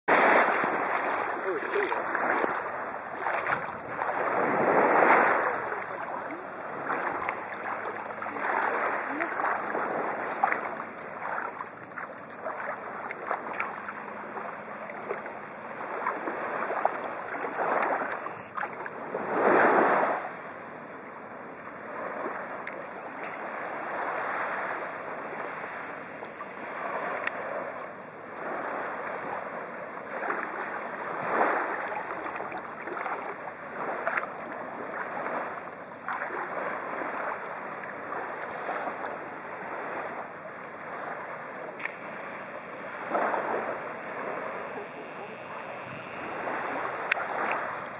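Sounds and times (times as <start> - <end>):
small waves washing on shore: 0.1 - 47.9.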